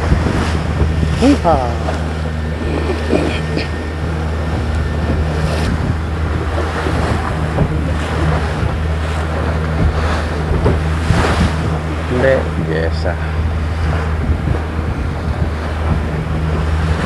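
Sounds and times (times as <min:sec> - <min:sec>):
motorboat engine droning: 0:00.0 - 0:17.0
water rushing past hull: 0:00.0 - 0:17.0
wind buffeting microphone: 0:00.0 - 0:17.0.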